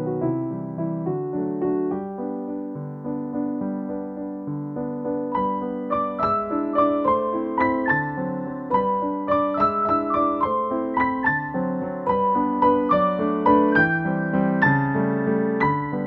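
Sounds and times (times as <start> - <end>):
gentle piano melody with bass: 0.0 - 16.0.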